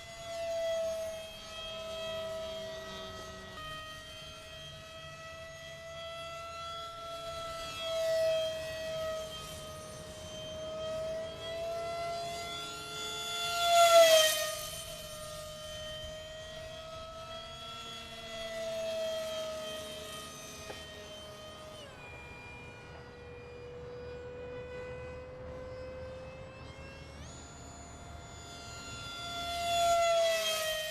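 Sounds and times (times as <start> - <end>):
electric ducted-fan motor whining: 0.0 - 30.9.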